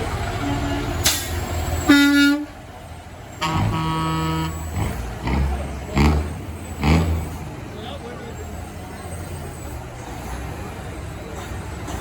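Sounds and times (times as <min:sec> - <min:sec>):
truck horns honking: 0:00.0 - 0:10.4
diesel truck engine rumble: 0:00.0 - 0:12.0.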